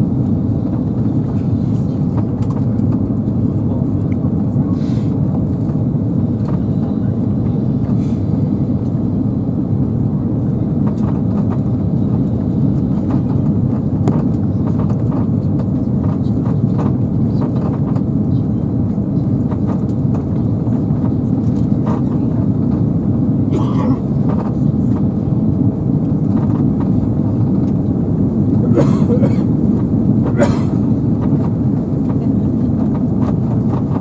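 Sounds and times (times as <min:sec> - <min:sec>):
aircraft cabin engine roar: 0:00.0 - 0:34.0.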